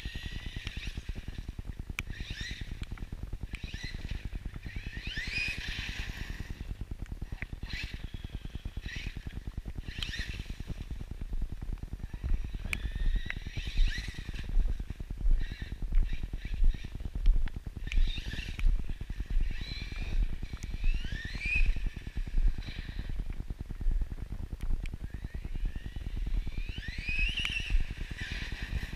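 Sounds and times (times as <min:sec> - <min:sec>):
electric motor whine: 0:00.0 - 0:28.9
regular thumps: 0:00.4 - 0:28.9
low rumble: 0:05.5 - 0:28.9.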